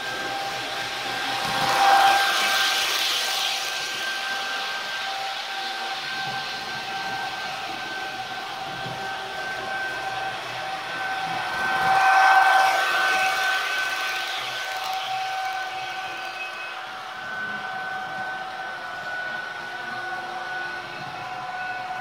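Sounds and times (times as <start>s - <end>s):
electric locomotive two-tone whine: 0.0s - 22.0s.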